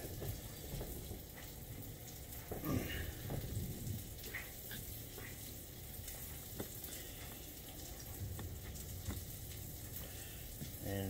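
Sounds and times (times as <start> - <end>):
meat frying sizzle: 0.0 - 11.0.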